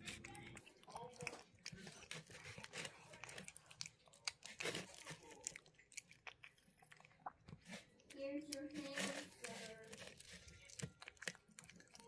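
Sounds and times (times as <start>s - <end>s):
cat chewing wet crunches: 0.0s - 12.0s.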